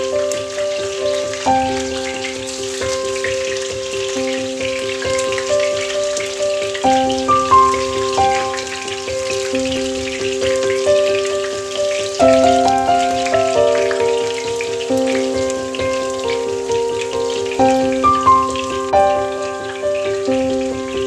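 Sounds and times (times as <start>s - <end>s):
instrumental background music: 0.0s - 21.0s
patties sizzling in oil: 0.0s - 21.0s.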